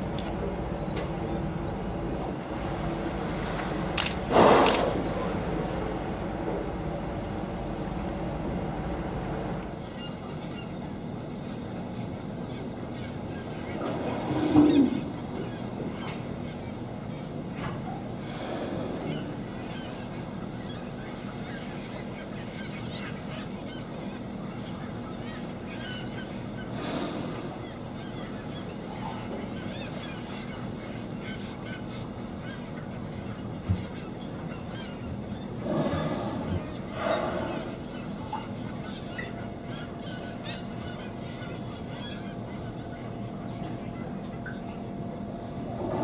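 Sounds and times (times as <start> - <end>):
steady low hum: 0.0 - 46.0
gulls calling: 0.4 - 46.0.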